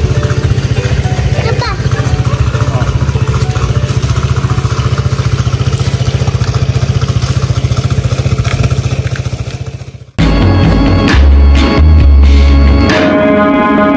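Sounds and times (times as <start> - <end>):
scooter engine idling: 0.0 - 11.4.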